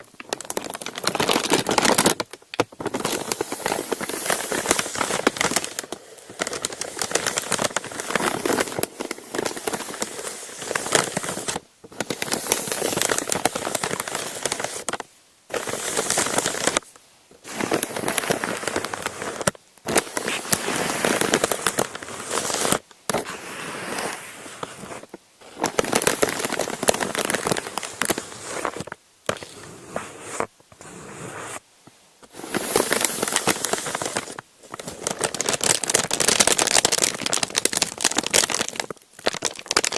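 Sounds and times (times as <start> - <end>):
paper crumpling and crinkling: 0.0 - 31.6, 32.2 - 39.9.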